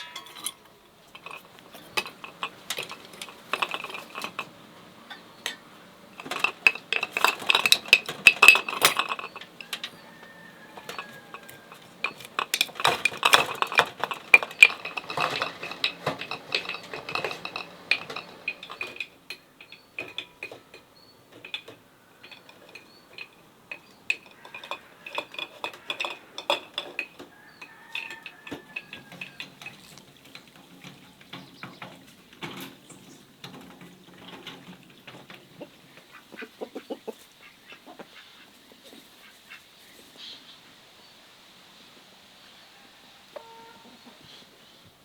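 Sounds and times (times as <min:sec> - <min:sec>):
utensils and dishes clinking: 0:00.0 - 0:37.0.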